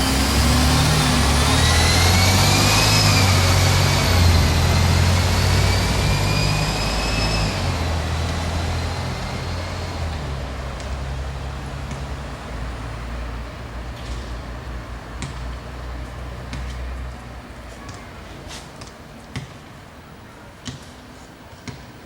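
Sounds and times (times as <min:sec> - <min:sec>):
motor vehicle running: 0:00.0 - 0:18.7.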